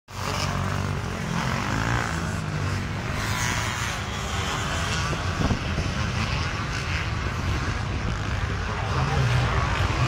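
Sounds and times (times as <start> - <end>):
motorcycle engines droning: 0.1 - 10.0.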